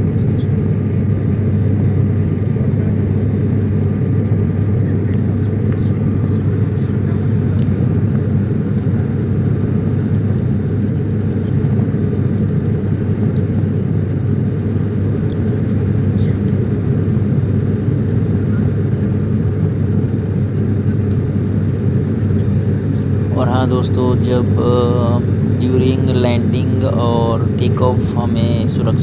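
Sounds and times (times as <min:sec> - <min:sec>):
airliner engines and rushing air: 0:00.0 - 0:29.0.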